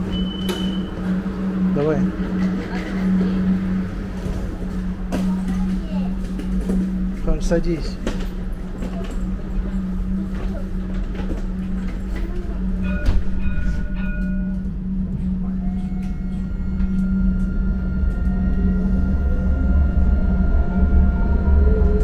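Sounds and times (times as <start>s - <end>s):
tram high whine: 0.0s - 22.0s.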